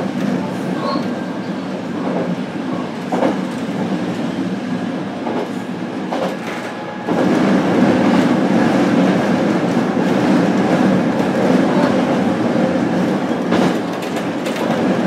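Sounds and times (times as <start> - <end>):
train wheels rolling on rail: 0.0 - 15.0.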